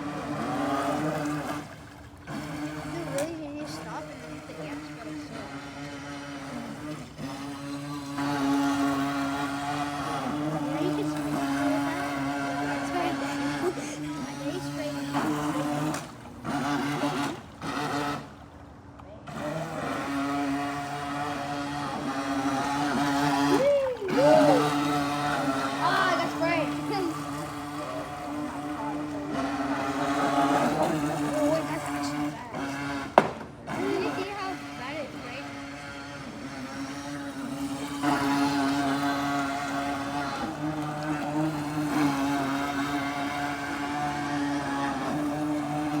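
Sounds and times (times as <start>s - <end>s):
small boat motor whining: 0.0s - 46.0s.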